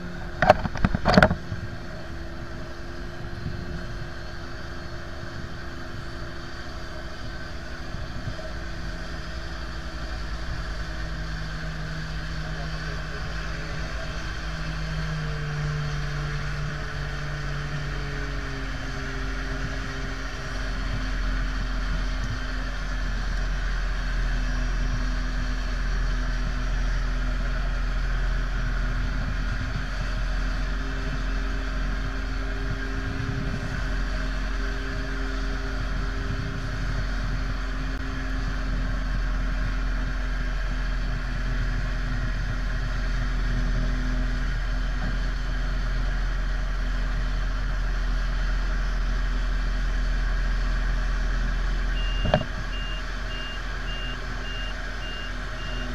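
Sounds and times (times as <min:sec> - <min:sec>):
tug engine rumbling under load: 0:00.0 - 0:55.9.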